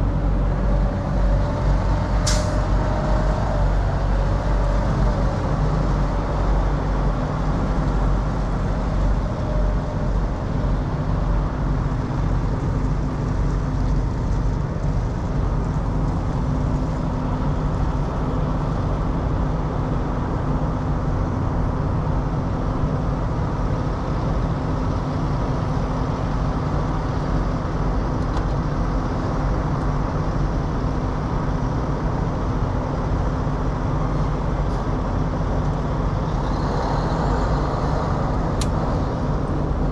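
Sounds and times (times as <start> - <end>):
diesel truck engine idling: 0.0 - 39.9
road traffic: 0.0 - 39.9.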